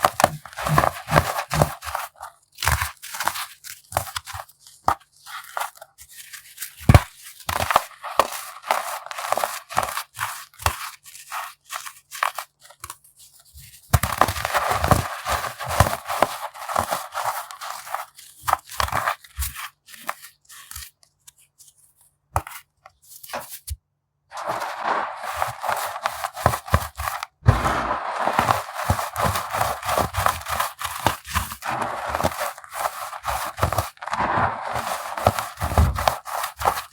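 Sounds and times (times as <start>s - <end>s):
baking soda crunching: 0.0s - 12.8s, 14.0s - 20.9s, 24.3s - 36.9s.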